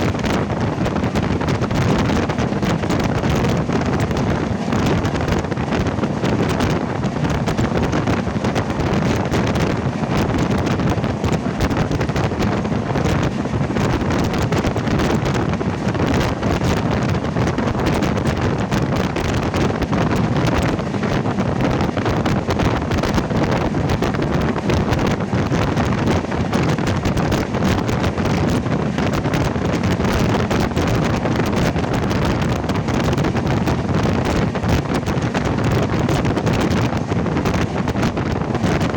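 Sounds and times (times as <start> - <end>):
train running rumble: 0.0 - 38.9
wind buffeting microphone: 0.0 - 38.9.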